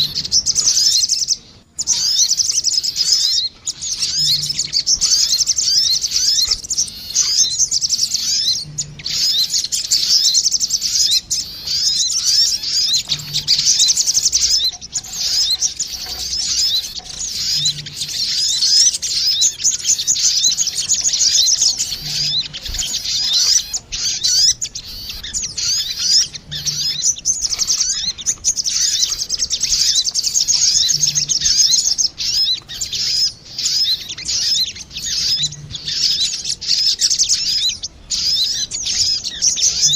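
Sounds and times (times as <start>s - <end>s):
birds chirping trills: 0.0s - 39.9s.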